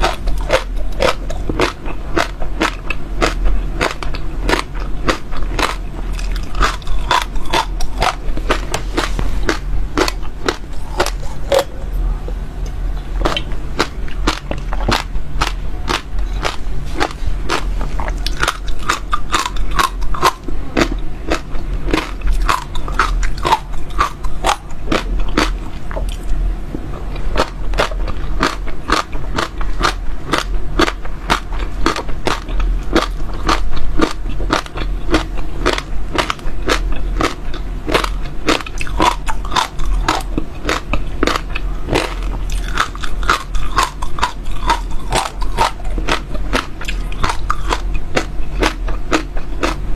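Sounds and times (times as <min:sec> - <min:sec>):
crunchy seeds being chewed: 0:00.0 - 0:12.0, 0:13.0 - 0:49.9.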